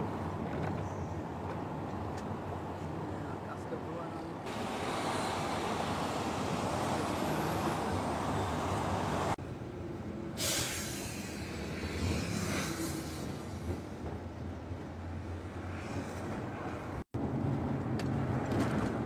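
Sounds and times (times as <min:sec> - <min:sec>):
traffic noise: 0:00.0 - 0:19.0
vehicle and road noise: 0:00.0 - 0:19.0.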